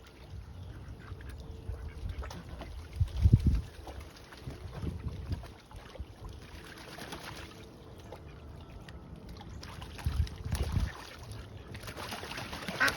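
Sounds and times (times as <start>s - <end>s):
ducks splashing in water: 0.0s - 12.9s.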